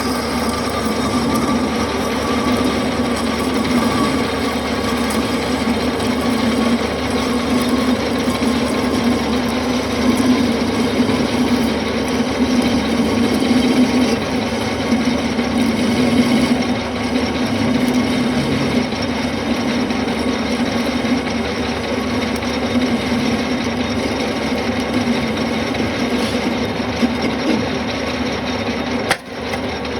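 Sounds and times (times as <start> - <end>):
metal lathe cutting metal: 0.0 - 29.9.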